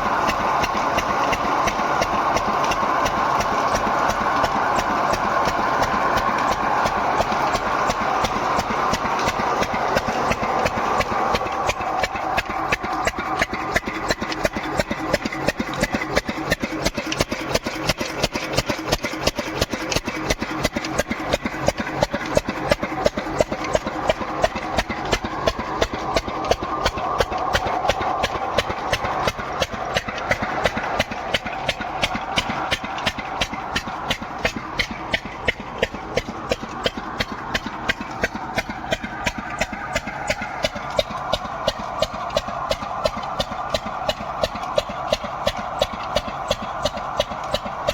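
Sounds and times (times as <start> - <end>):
engine idling with knocking beat: 0.0 - 47.9.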